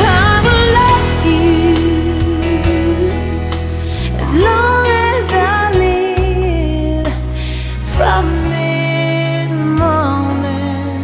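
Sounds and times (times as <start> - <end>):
slow tender music: 0.0 - 11.0.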